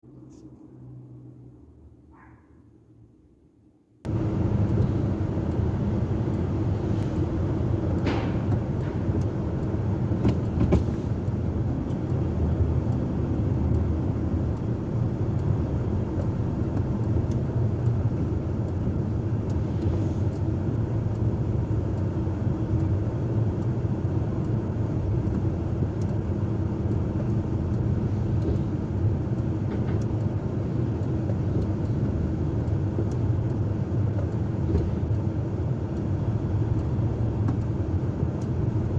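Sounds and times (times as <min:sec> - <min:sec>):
diesel engine running: 0:04.1 - 0:38.9.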